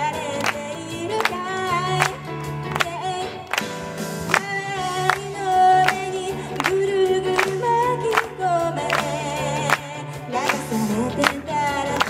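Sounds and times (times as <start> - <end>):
audience clapping along: 0.0 - 12.0
electric keyboard: 0.0 - 12.0
woman singing pop song: 0.0 - 12.0.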